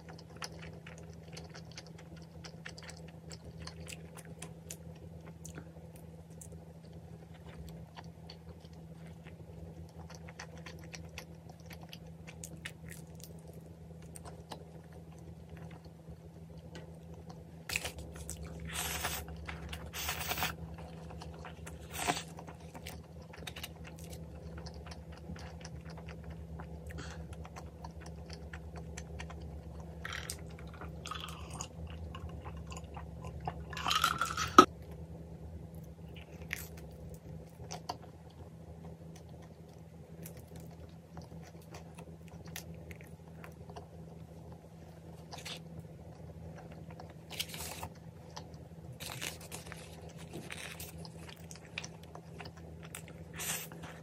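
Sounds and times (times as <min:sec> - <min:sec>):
chewing and crunching pizza: 0:00.0 - 0:54.0.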